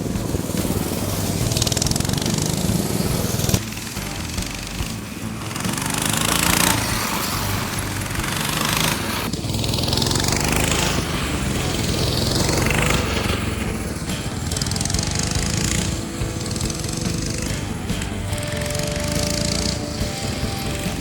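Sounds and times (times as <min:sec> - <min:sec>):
mini bike engines buzzing: 0:00.0 - 0:21.0.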